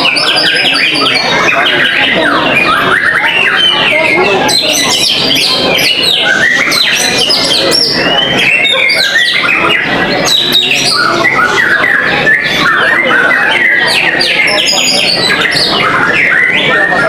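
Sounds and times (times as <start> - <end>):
songbirds whistling and chirping: 0.0 - 17.0.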